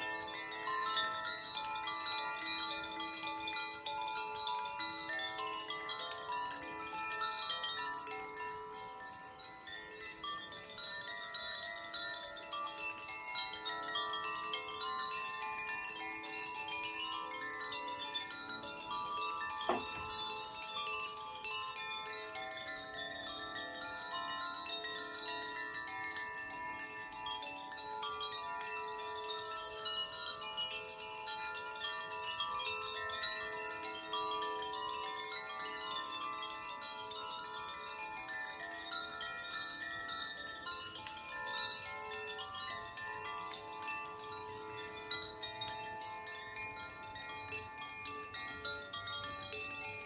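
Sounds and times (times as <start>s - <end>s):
wind chimes ringing: 0.0s - 50.0s.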